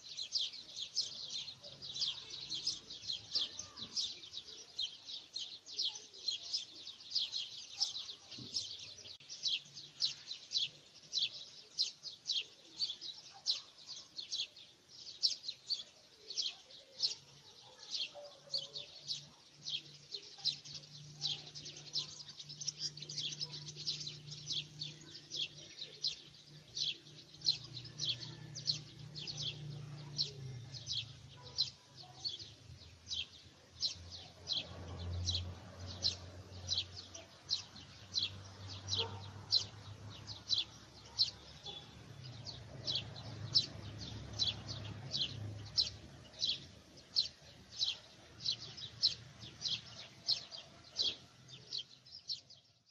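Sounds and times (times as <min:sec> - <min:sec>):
small bird chirping: 0:00.0 - 0:52.9.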